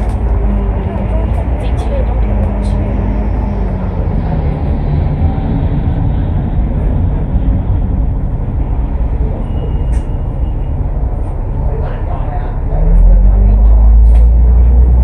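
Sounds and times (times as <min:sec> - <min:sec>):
bus engine rumble: 0:00.0 - 0:15.0
road noise: 0:00.0 - 0:15.0.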